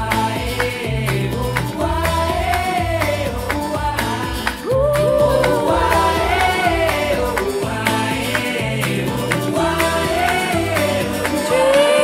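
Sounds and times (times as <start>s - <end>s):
pop song through speakers: 0.0s - 12.0s.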